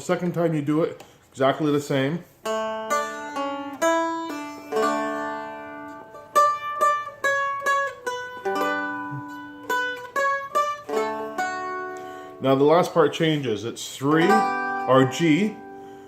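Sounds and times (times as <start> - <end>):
guitar strums: 0.2 - 16.0
picked guitar melody: 2.3 - 16.0.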